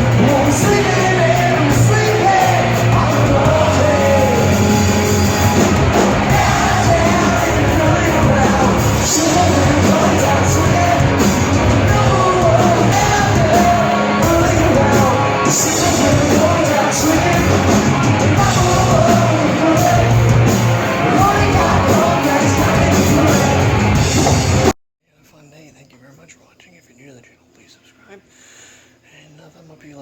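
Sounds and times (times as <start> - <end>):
rock song with vocals: 0.0 - 24.7.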